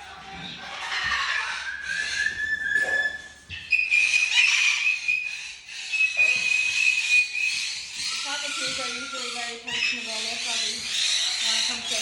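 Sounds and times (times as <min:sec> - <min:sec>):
parrot whistling: 0:00.8 - 0:12.0.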